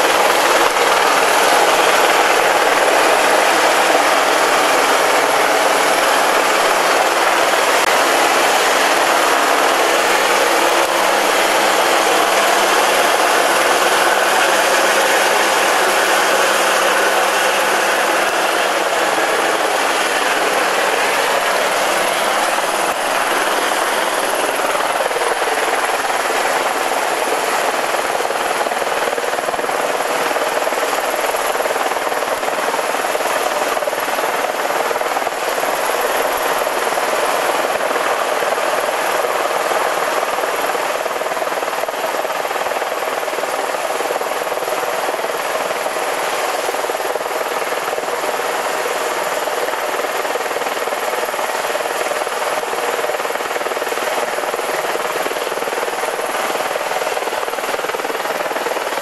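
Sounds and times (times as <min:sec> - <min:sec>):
helicopter flying close by: 0:00.0 - 0:59.0.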